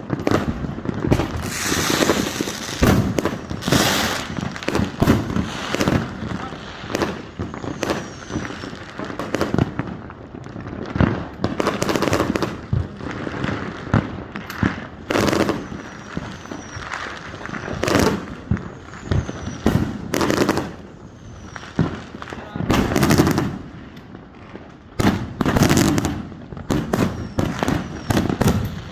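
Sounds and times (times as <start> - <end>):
fireworks bangs and crackling: 0.0 - 28.9
fireworks falling whistles: 0.0 - 28.9.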